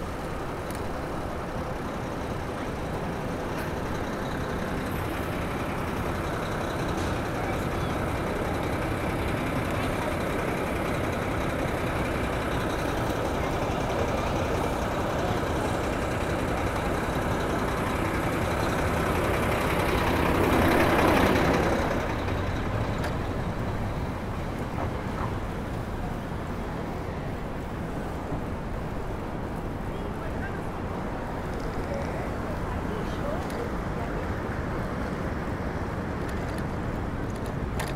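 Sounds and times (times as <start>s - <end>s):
street traffic noise: 0.0s - 37.9s.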